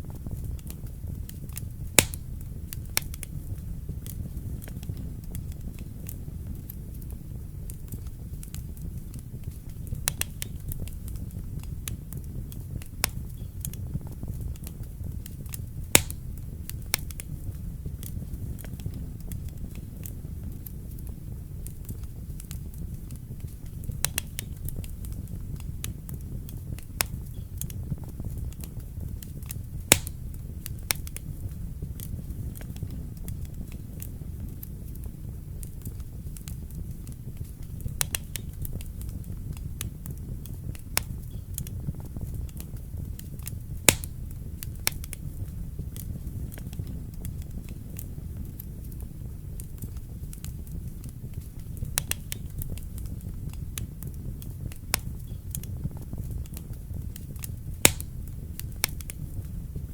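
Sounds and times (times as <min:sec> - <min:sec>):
fire popping and crackling: 0:00.0 - 0:59.9
fire rumbling: 0:00.0 - 0:59.9.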